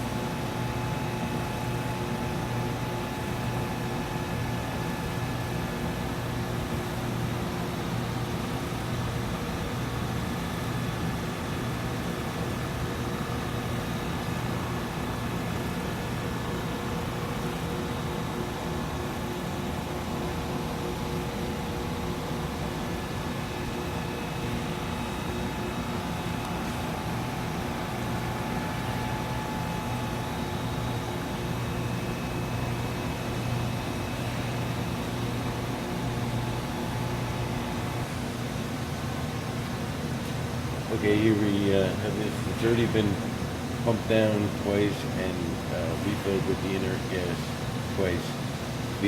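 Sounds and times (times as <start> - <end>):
faint steady whines: 0.0 - 49.0
machinery hum: 0.0 - 49.0.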